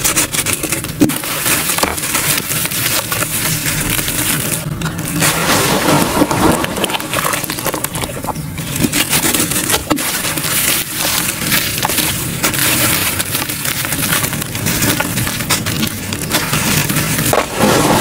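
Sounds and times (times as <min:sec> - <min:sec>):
charcoal crunching and crackling: 0:00.0 - 0:18.0.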